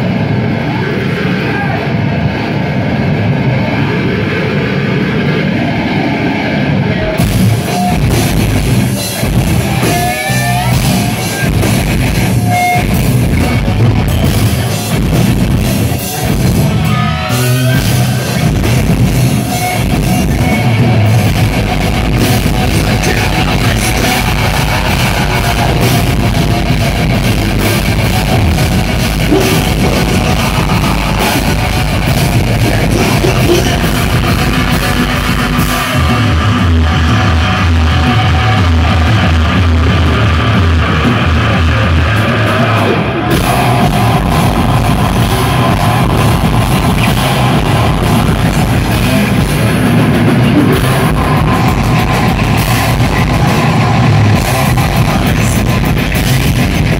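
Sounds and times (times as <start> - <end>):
live metal band playing: 0.0 - 56.9.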